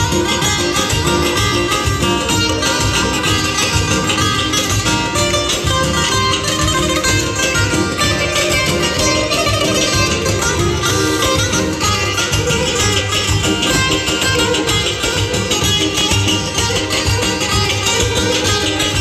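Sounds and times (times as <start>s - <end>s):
amplified plucked lute melody: 0.0s - 19.0s.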